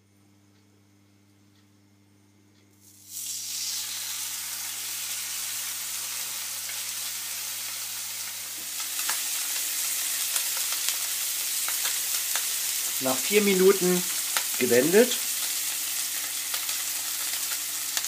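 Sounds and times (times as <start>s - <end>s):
fish sizzling in a grill pan: 2.8s - 18.0s.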